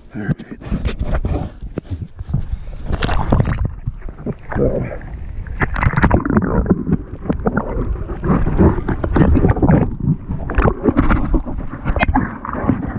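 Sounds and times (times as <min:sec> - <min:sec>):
stream water sloshing and gurgling: 0:00.0 - 0:12.9.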